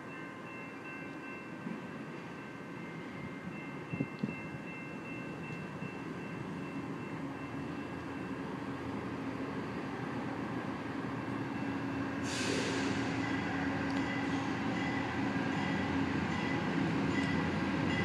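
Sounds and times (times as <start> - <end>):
diesel locomotive approaching: 0.0 - 18.0.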